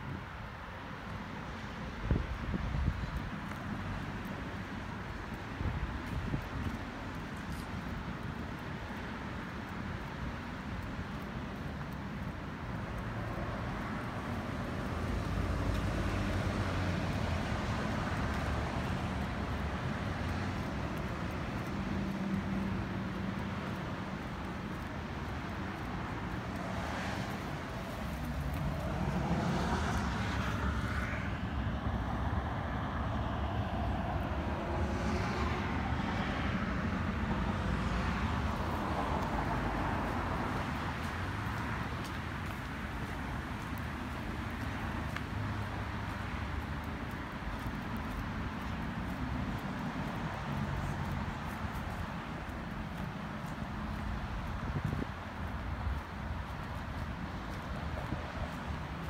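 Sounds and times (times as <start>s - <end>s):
passing cars: 0.0s - 59.0s.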